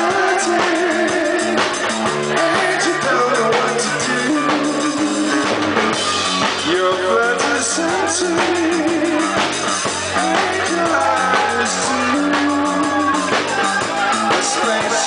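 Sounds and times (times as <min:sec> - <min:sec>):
man singing into microphone: 0:00.0 - 0:05.8, 0:06.5 - 0:15.0
live rock band playing: 0:00.0 - 0:15.0.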